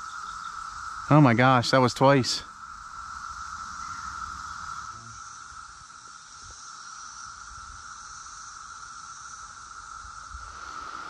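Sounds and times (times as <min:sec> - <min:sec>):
cicadas humming: 0:00.0 - 0:11.0.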